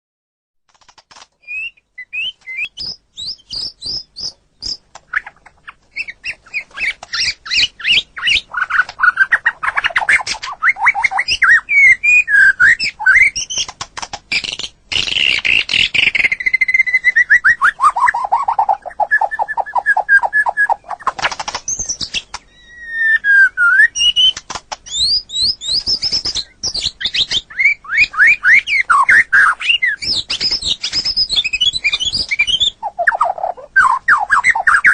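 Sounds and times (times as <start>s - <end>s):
bird singing whistled phrases: 1.4s - 13.7s, 14.3s - 21.1s, 21.7s - 34.9s.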